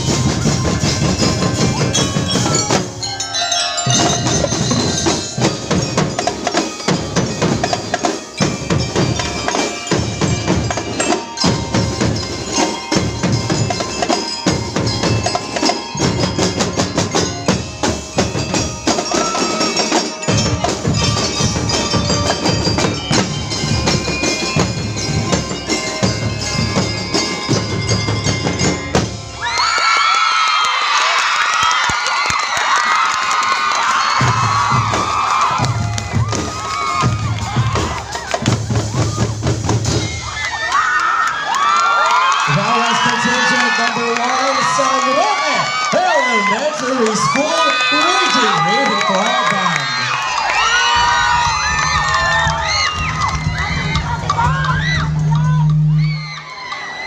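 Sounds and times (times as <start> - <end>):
bell lyres ringing a melody: 0.0 - 29.6, 34.0 - 40.7, 41.8 - 57.0
marching drums beating: 0.0 - 29.6, 33.8 - 40.8, 46.9 - 56.4.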